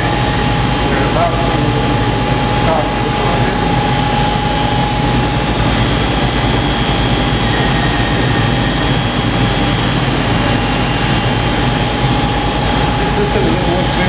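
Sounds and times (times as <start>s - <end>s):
constant machine whine: 0.0s - 14.0s
vibrating machine droning: 0.0s - 14.0s.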